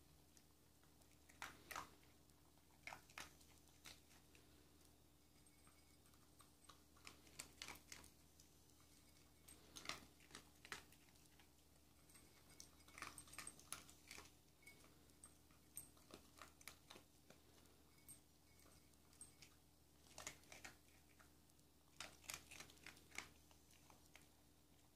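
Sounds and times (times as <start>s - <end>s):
dog crunching dry kibble: 0.3s - 4.8s, 5.6s - 17.8s, 18.6s - 24.9s.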